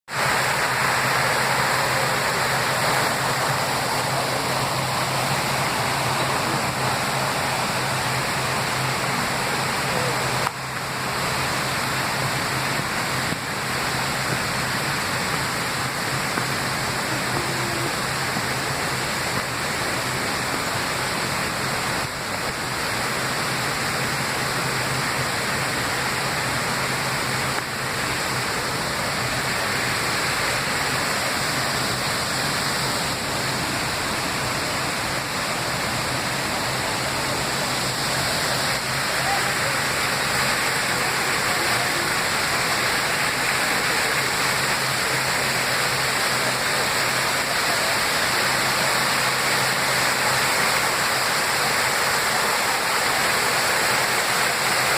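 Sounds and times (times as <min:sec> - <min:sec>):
waterfall rushing: 0:00.1 - 0:54.9.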